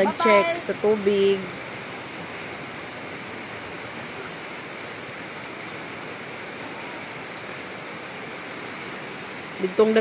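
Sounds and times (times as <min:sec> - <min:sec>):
rain falling steadily: 0:00.0 - 0:10.0.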